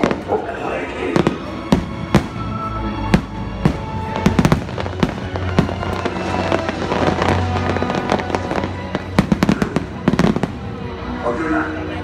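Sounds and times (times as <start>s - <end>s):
show music: 0.0s - 12.0s.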